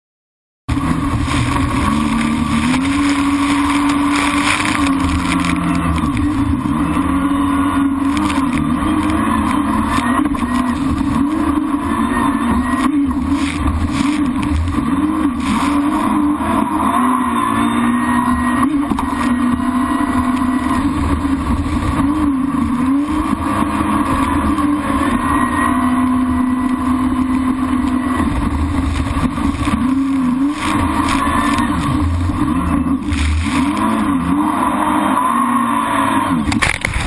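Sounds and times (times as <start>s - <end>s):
jet ski engine running: 0.7s - 37.0s.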